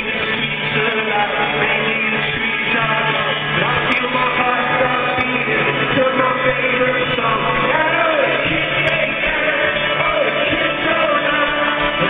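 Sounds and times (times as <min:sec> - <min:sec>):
live rock band with singing: 0:00.0 - 0:12.0.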